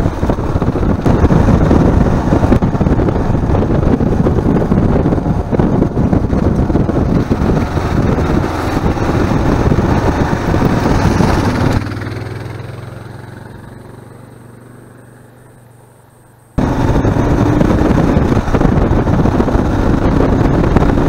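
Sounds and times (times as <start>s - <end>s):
wind rush on microphone: 0.0s - 13.8s, 16.6s - 21.0s
motorcycle engine running: 0.0s - 15.8s, 16.6s - 21.0s
motorcycle riding off: 0.0s - 21.0s.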